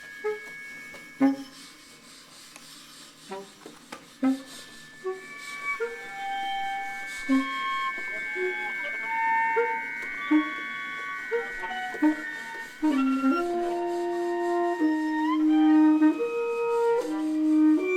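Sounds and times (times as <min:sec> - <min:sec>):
viola high held tone: 0:00.0 - 0:17.9
baritone saxophone low notes: 0:00.1 - 0:01.6, 0:03.3 - 0:17.9.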